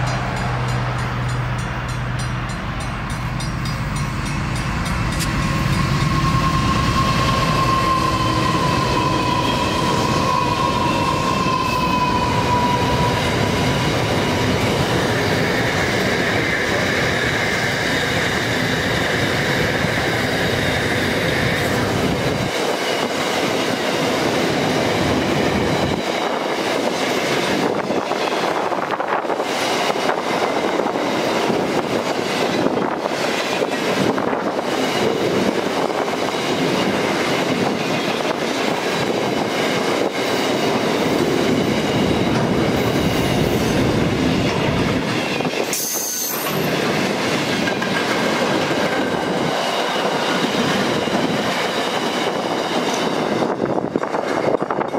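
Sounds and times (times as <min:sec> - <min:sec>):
freight wagons rumbling on rails: 0:00.0 - 0:54.9.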